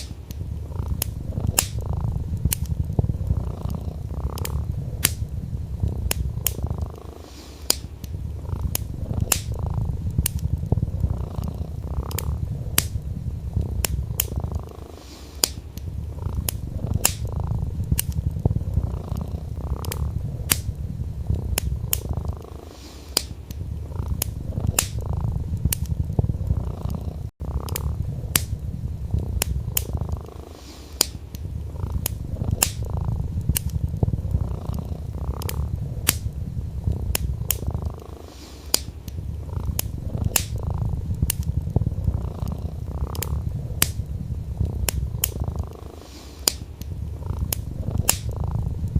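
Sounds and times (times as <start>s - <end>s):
cat purring: 0.0s - 48.9s
wood fire crackling and popping: 0.0s - 48.9s.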